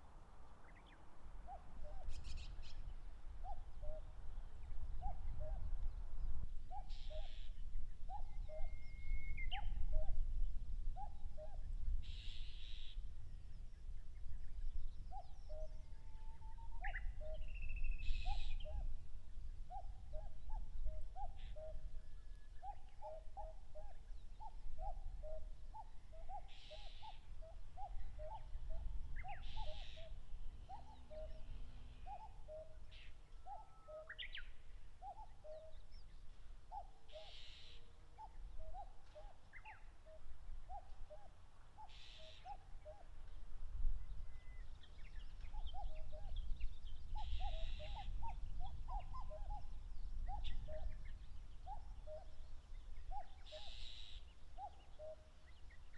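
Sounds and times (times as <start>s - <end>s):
small birds chirping: 0.5s - 55.9s
cuckoos calling: 0.6s - 55.9s.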